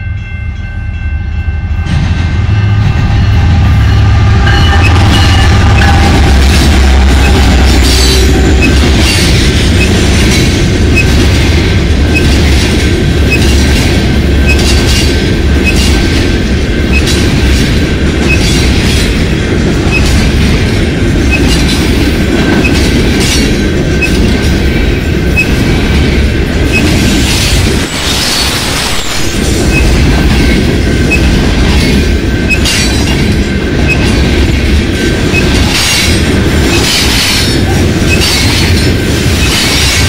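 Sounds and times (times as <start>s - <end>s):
diesel locomotive engine: 0.0s - 40.0s
freight cars rumbling past: 1.8s - 40.0s
wheels clacking over rail joints: 4.4s - 40.0s.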